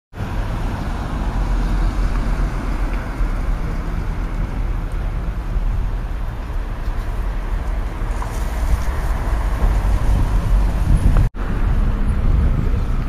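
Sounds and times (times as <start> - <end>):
deep street rumble: 0.1 - 13.0
traffic noise: 0.1 - 13.0.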